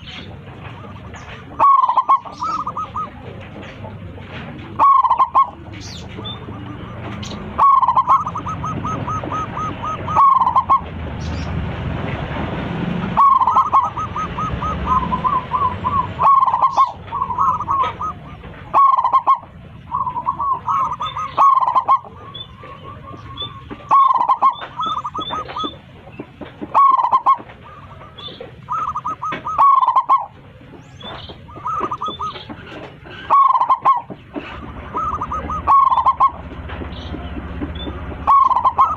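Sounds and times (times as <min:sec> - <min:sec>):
dove cooing: 0:00.0 - 0:12.2, 0:12.8 - 0:38.9
steady background noise: 0:00.0 - 0:38.9.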